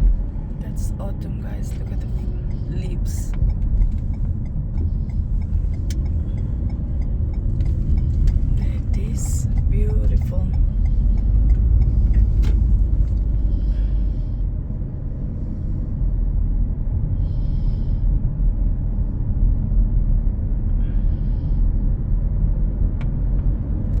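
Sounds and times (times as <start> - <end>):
car road noise rumbling: 0.0 - 24.0.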